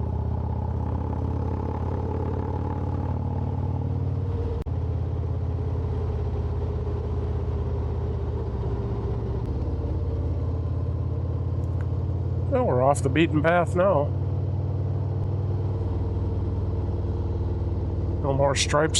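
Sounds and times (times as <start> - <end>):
motorcycle engine cruising: 0.0 - 18.9.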